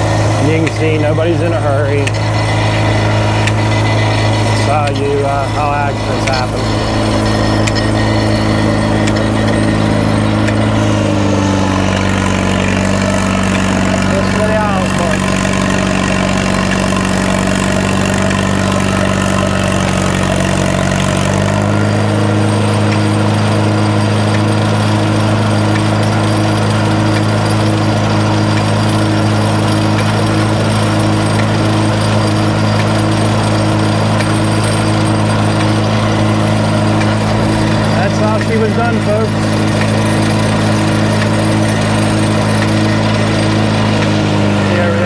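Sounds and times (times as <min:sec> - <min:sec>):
tractor engine running steadily: 0:00.0 - 0:45.0.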